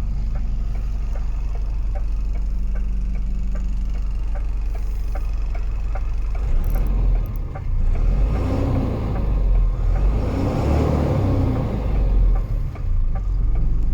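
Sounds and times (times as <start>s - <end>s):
truck diesel engine idling and revving: 0.0s - 13.9s.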